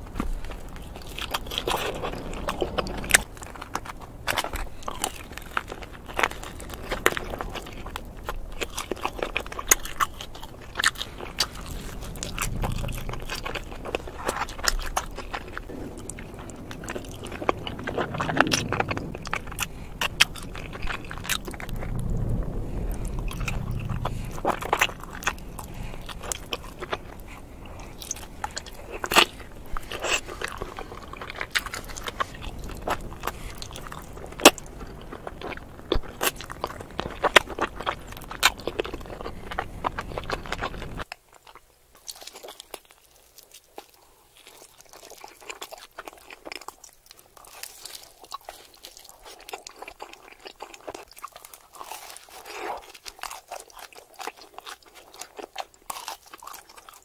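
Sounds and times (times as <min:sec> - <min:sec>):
biting and chewing: 0:00.0 - 0:57.0.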